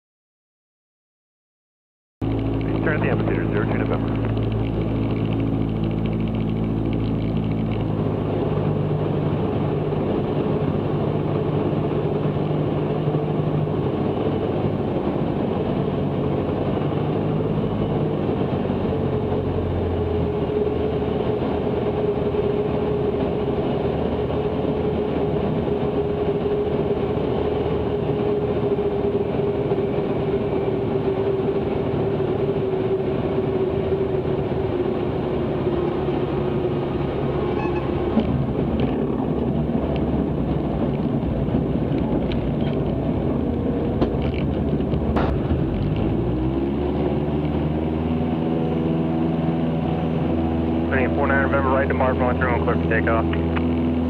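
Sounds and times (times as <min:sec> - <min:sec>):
airplane engine and propeller droning: 0:02.2 - 0:54.0.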